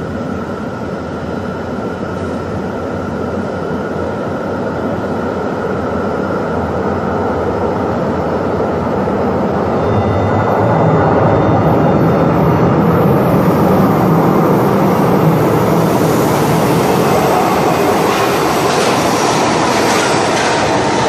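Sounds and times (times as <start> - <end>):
faint high whine: 0.0 - 19.8
train rumbling hum: 0.0 - 21.0.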